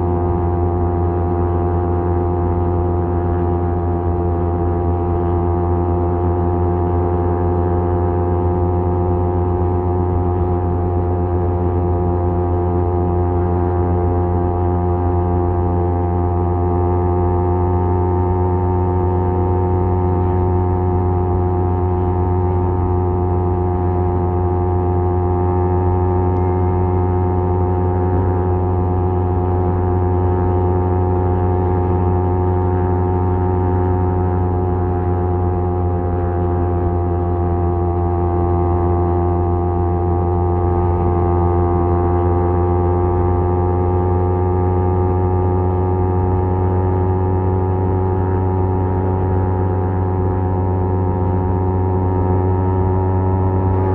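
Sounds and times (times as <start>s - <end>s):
motorcycle exhaust drone: 0.0s - 53.9s.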